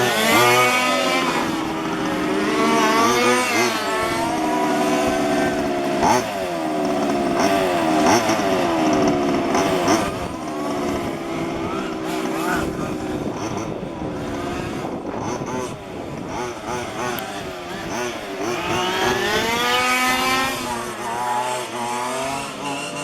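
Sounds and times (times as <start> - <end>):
small engine rc cars buzzing: 0.0 - 23.0.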